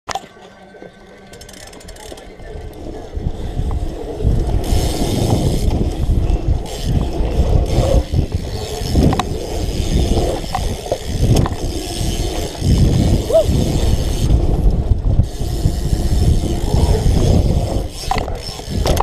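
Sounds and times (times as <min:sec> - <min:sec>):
bicycle tyre and frame noise: 0:00.1 - 0:19.0
bike clicks and knocks: 0:01.2 - 0:19.0
wind buffeting microphone: 0:01.8 - 0:19.0.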